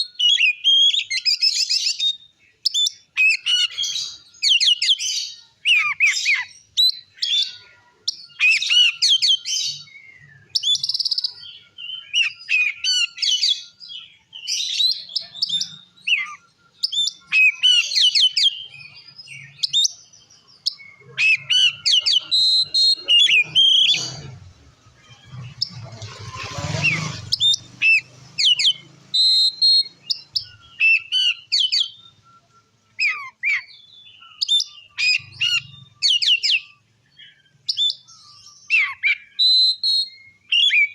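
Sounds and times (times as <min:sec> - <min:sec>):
songbird whistling and chattering: 0:00.0 - 0:40.9.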